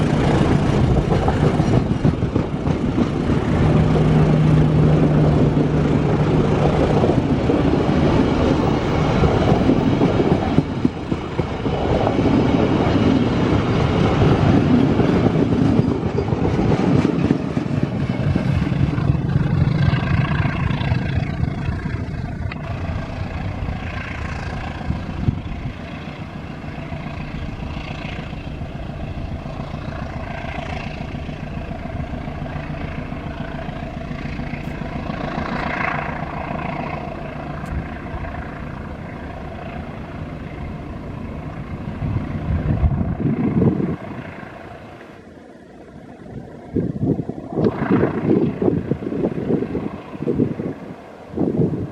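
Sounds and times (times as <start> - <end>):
passenger train passing: 0.0 - 51.9.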